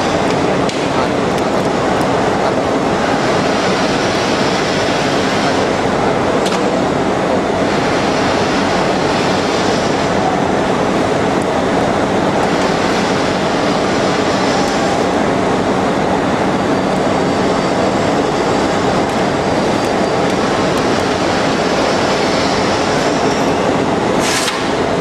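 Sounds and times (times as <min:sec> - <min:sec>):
lathe turning: 0:00.0 - 0:24.2.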